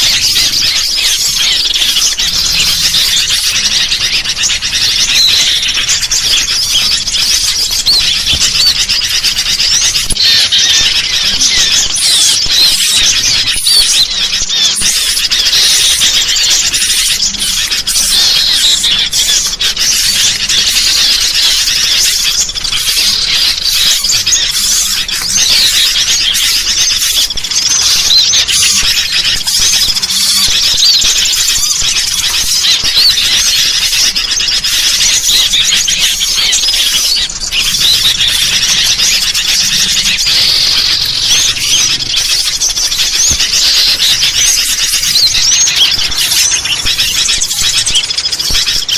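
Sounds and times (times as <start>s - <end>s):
harsh scolding bird calls: 0.0s - 48.9s
small birds chirping: 0.0s - 48.9s.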